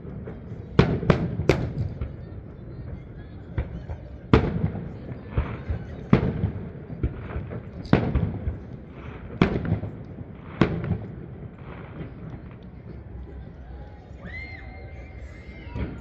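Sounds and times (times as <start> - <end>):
fireworks bangs: 0.0 - 13.6, 14.2 - 16.0.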